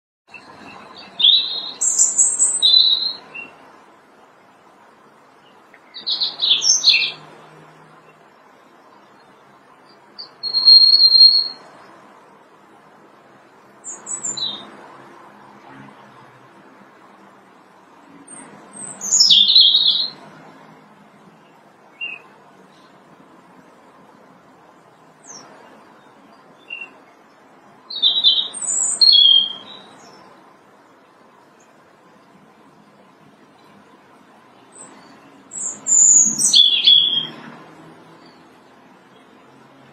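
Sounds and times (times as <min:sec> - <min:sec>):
robin singing: 0:00.3 - 0:39.9.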